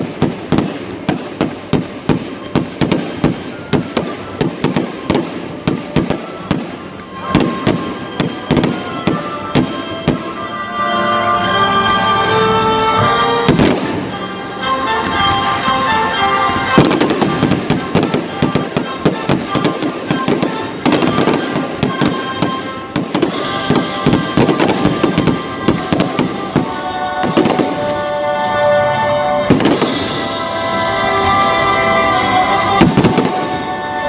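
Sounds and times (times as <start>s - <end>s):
fireworks bangs and crackling: 0.0s - 10.8s, 12.8s - 34.0s
music with sustained tones: 0.0s - 34.0s.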